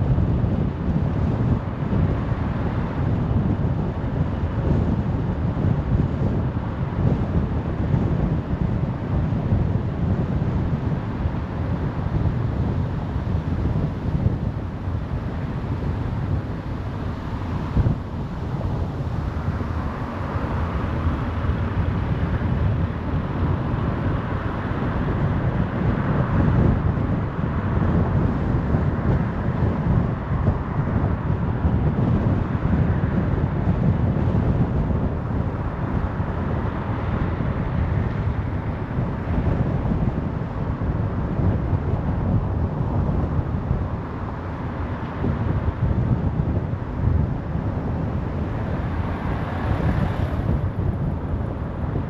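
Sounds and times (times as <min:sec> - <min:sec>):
wind noise: 0:00.0 - 0:52.0.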